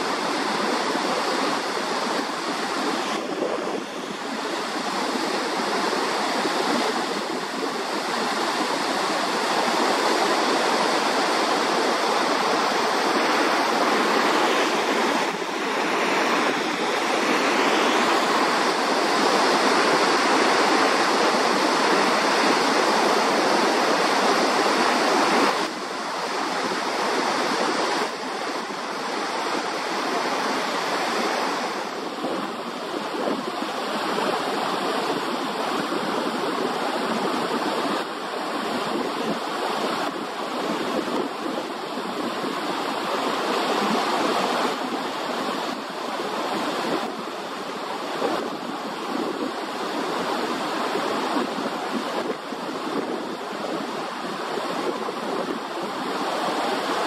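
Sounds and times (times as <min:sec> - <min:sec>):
whitewater rapids roaring: 0:00.0 - 0:57.0.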